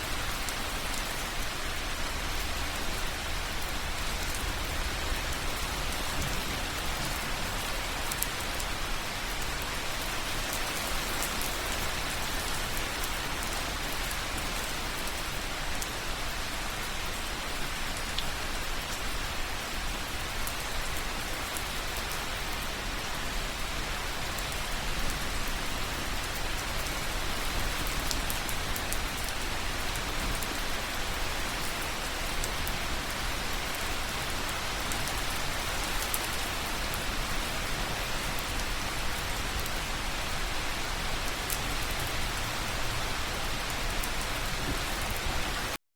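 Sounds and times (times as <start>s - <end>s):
rain dripping on soft surface: 0.0s - 45.8s.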